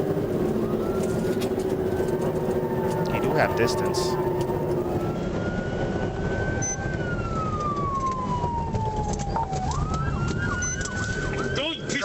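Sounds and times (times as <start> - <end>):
police siren wailing and yelping: 0.0 - 12.0
road and engine noise: 0.0 - 12.0.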